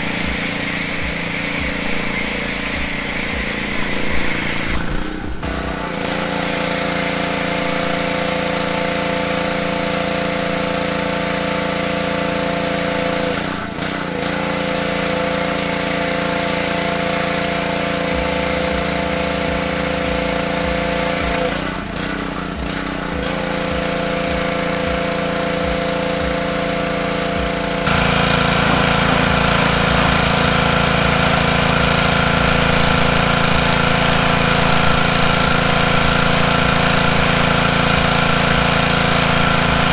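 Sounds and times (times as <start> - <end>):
water spraying hiss: 0.0 - 5.2, 5.9 - 13.6, 14.2 - 21.7, 23.2 - 39.9
pressure washer engine running: 0.0 - 39.9.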